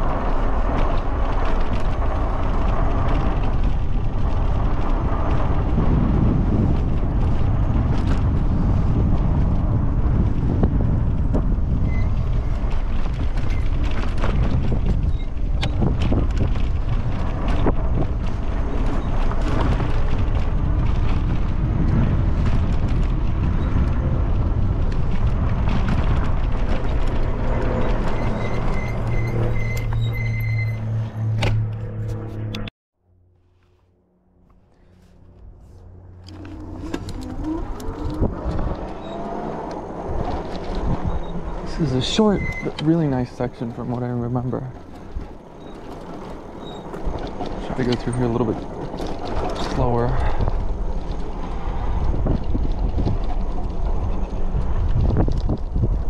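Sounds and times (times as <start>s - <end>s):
bike rattling and knocking: 0.0s - 31.0s, 35.0s - 56.0s
tyres rumbling on rocky trail: 0.0s - 31.4s, 34.5s - 56.0s.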